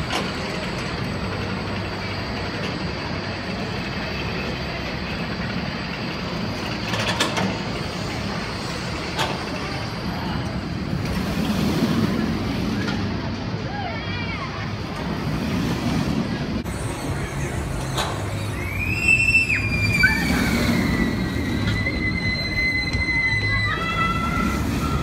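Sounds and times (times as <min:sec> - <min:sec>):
roller coaster rumbling on track: 0:00.0 - 0:25.0.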